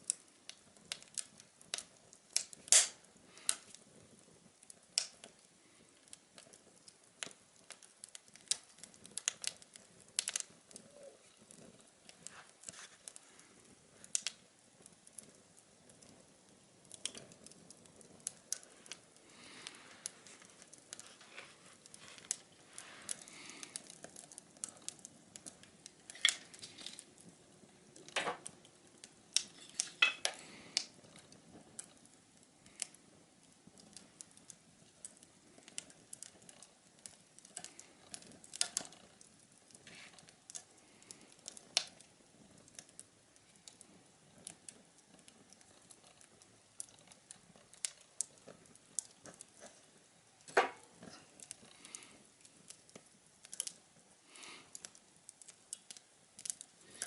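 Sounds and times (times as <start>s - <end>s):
faint fire hiss: 0.0s - 57.0s
wood fire crackling and popping: 0.0s - 57.0s.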